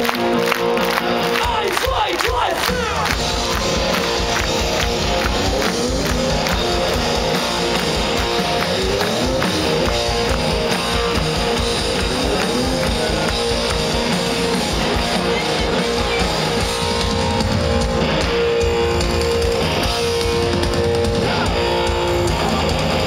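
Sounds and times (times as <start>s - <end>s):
bass guitar: 0.0s - 23.0s
electric guitar: 0.0s - 23.0s
drum kit beat: 0.1s - 23.0s.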